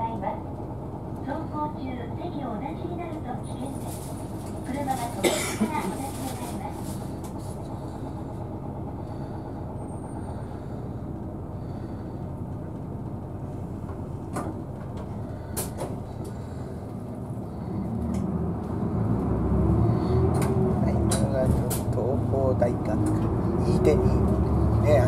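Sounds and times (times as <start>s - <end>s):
bus engine: 0.0s - 25.0s.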